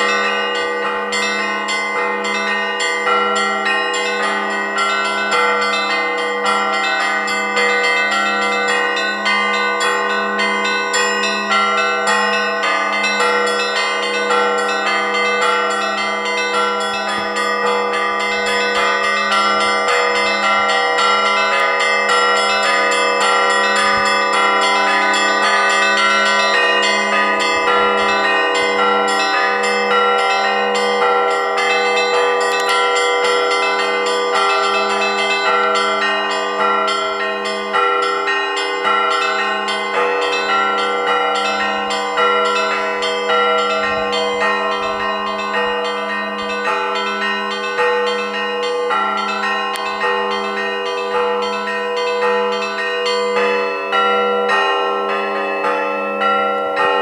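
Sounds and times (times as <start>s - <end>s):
small church bells ringing rapidly: 0.0s - 57.0s.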